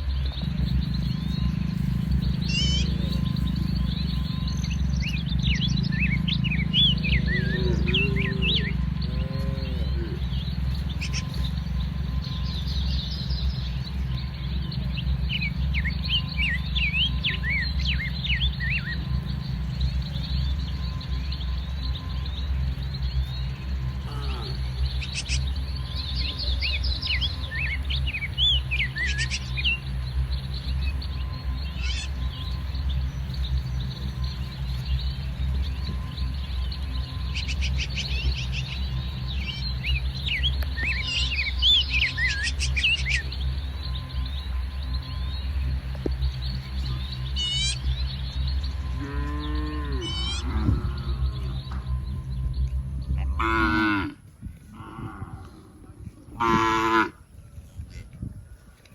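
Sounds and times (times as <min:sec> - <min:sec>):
small birds chirping: 0:00.0 - 0:58.9
steady low rumble: 0:00.0 - 0:58.9.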